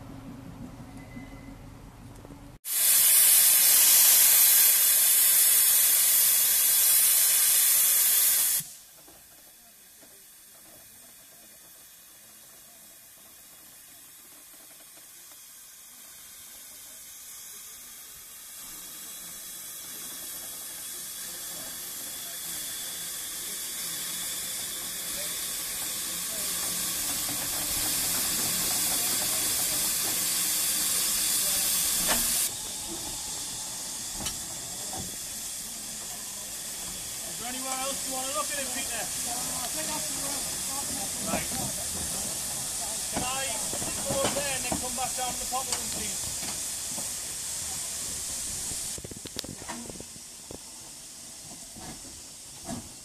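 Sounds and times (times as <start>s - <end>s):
steam locomotive hissing: 2.6s - 53.0s.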